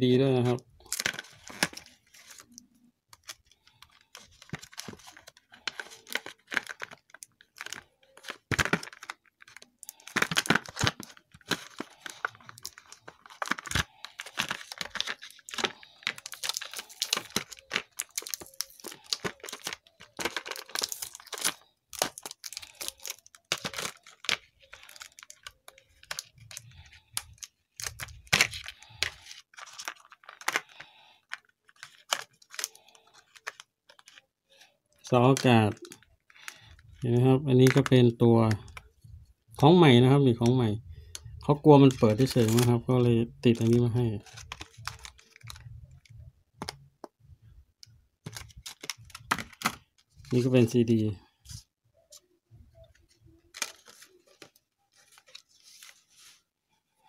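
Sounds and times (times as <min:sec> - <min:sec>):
plastic packaging crackling: 0:00.3 - 0:39.0, 0:41.0 - 0:47.1, 0:47.8 - 0:51.1, 0:52.1 - 0:56.3.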